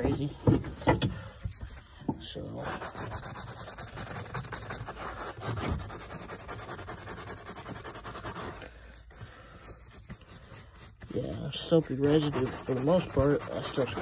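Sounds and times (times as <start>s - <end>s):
carpet scrubbing by hand: 2.4s - 14.0s.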